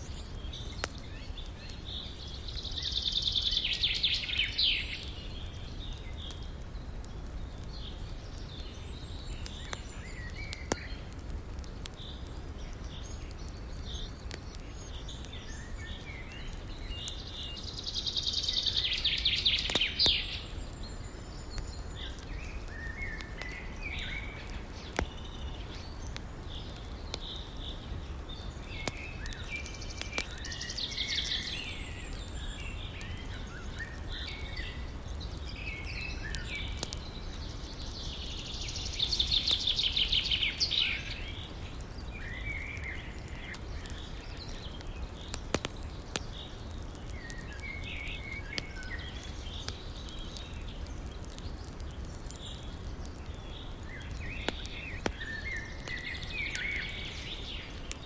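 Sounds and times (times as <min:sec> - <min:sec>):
bird singing trilled song: 0:00.0 - 0:11.1, 0:11.9 - 0:58.0
birds chirping: 0:00.0 - 0:58.0.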